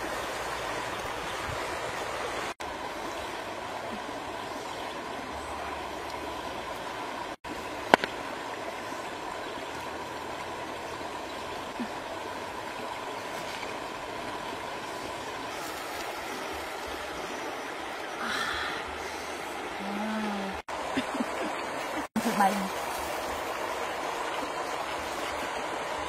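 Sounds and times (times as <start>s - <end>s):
stream flowing over stones: 0.0s - 26.0s.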